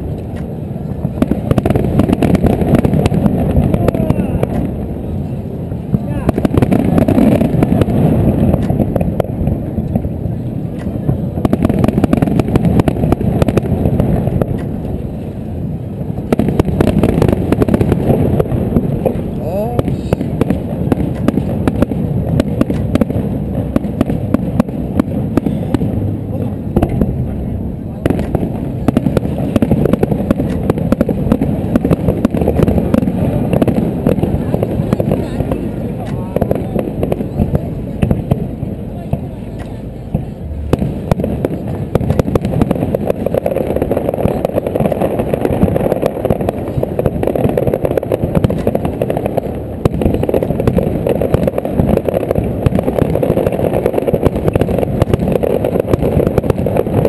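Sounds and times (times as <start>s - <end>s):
crackling pops: 0.0s - 5.0s, 5.8s - 57.0s
fireworks shell bursts rumbling: 0.0s - 57.0s.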